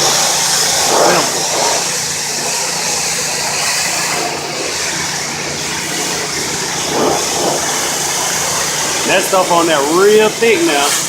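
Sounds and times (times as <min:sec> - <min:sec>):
high-pressure spray hissing: 0:00.0 - 0:11.0
pressure washer engine hum: 0:00.0 - 0:11.0.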